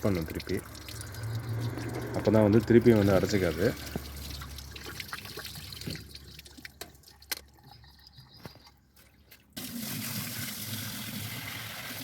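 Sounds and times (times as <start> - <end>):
water dripping and trickling: 0.0 - 12.0
water flowing down a drain: 0.0 - 12.0.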